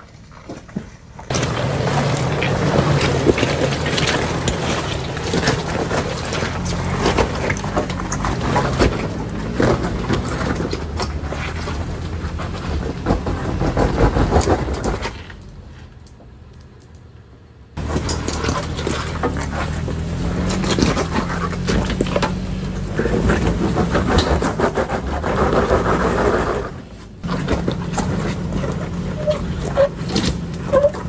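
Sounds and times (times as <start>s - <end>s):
knocks and clatters on rough trail: 0.0s - 17.2s, 17.8s - 31.0s
truck engine droning under load: 0.0s - 31.0s.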